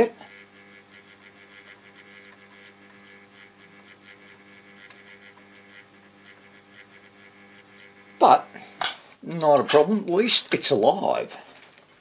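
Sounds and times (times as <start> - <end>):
faint mains hum from radio: 0.0 - 12.0.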